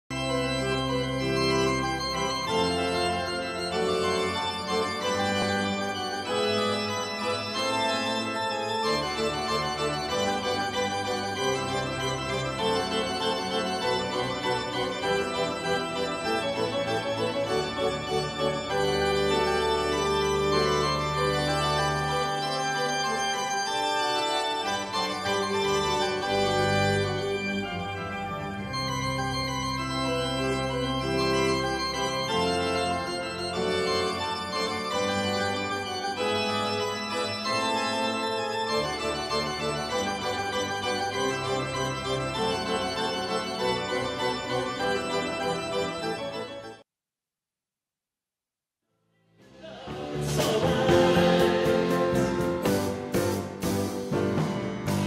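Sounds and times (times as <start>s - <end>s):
church organ playing: 0.1s - 46.8s, 49.4s - 55.0s.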